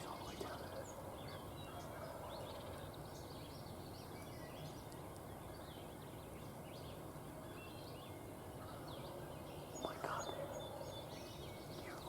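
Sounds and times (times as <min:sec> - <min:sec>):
low outdoor background hum: 0:00.0 - 0:12.0
small songbirds chirping: 0:00.0 - 0:12.0.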